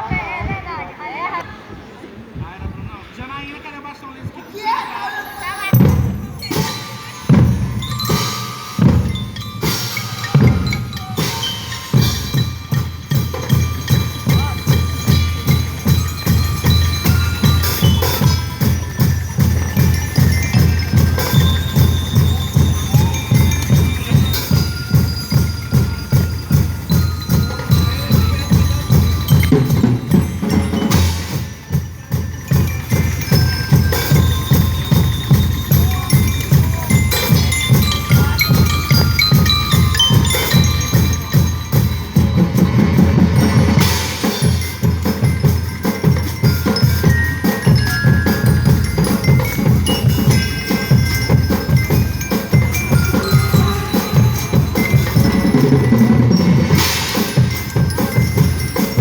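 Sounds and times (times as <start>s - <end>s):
mallet bell melody: 4.6s - 59.0s
drums fast beat: 5.4s - 59.0s.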